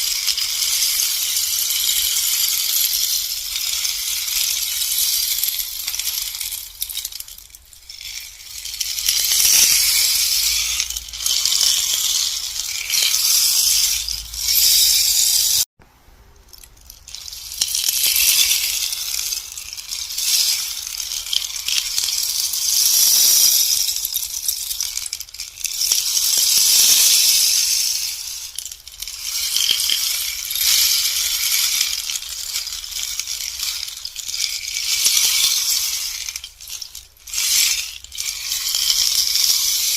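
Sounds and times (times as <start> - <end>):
rainstick rattling: 0.0 - 39.9.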